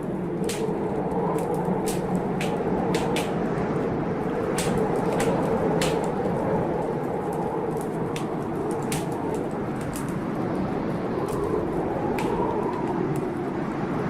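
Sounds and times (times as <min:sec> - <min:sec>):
blizzard wind: 0:00.0 - 0:14.0
wood fire crackling: 0:00.0 - 0:14.0.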